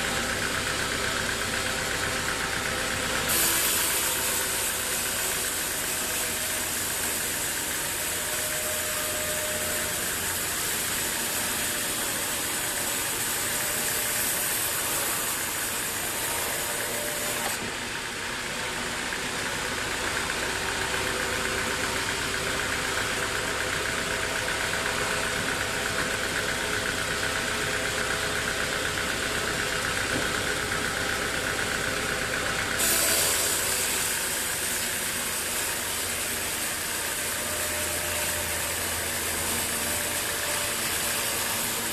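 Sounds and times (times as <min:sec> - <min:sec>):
sawmill machinery droning: 0:00.0 - 0:41.9.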